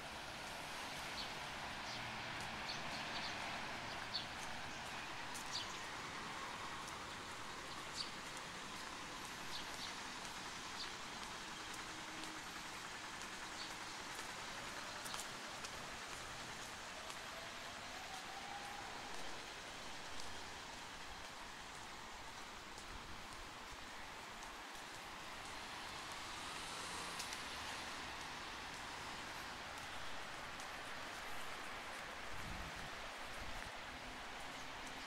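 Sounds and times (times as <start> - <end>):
traffic hiss: 0.0 - 35.0.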